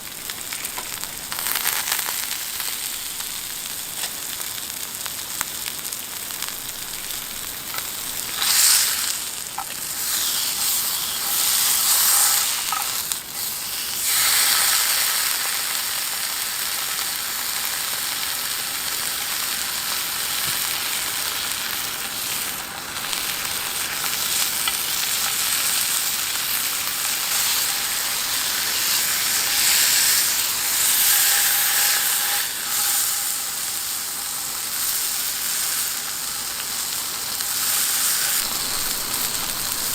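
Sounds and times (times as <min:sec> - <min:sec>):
beef sizzling in a hot pan: 0:00.0 - 0:39.9.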